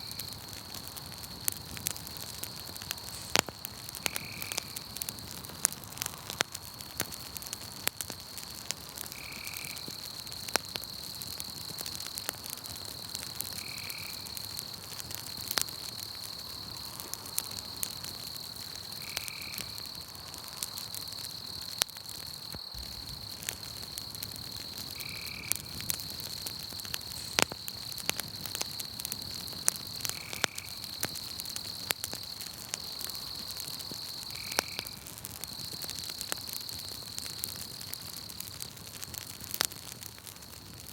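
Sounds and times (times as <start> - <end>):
insects chirring: 0.0 - 39.6
campfire crackling and popping: 0.0 - 40.9.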